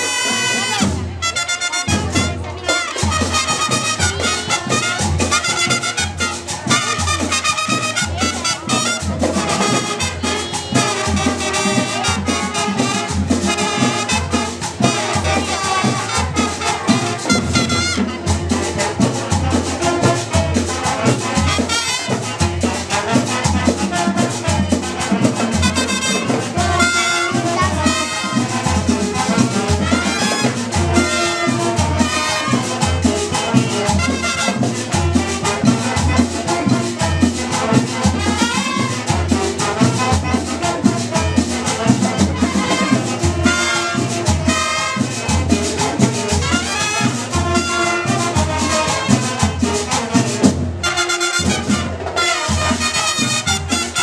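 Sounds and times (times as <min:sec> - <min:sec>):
brass playing a tune: 0:00.0 - 0:54.0
bass drum beat: 0:01.9 - 0:54.0.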